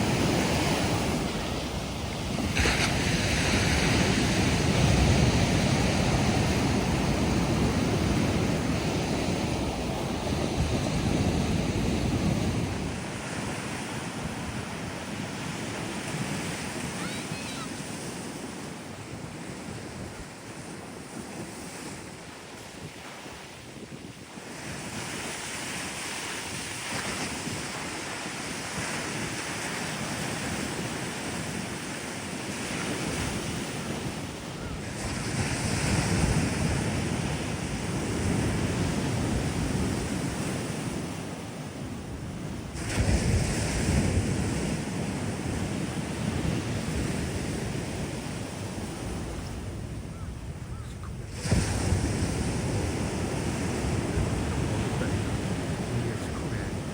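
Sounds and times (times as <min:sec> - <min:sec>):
sea waves breaking on beach: 0:00.0 - 0:56.9.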